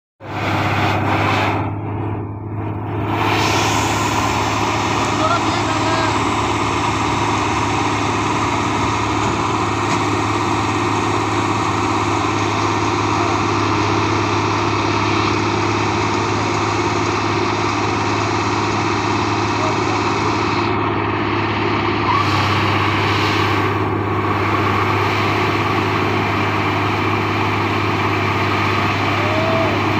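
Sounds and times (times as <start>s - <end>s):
combine harvester droning: 0.2s - 29.9s.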